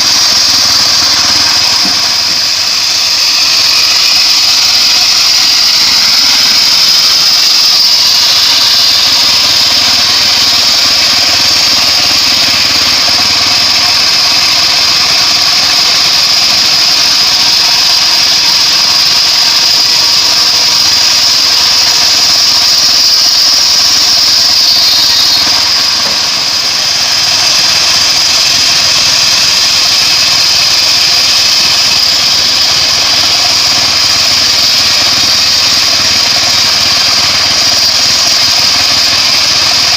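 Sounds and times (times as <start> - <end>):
bandsaw sawmill drone with whine: 0.0 - 39.9.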